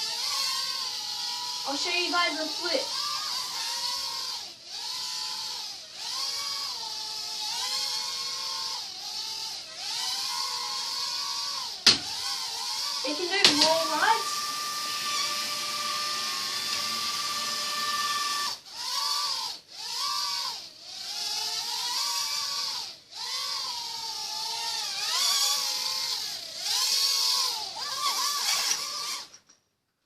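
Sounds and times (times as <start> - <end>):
quadcopter propellers whining: 0.0 - 29.4.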